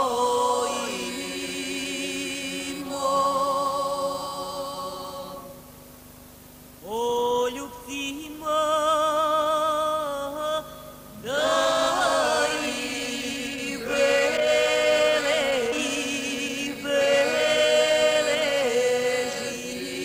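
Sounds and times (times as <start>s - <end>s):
man and woman singing: 0.0s - 5.6s, 6.8s - 20.0s.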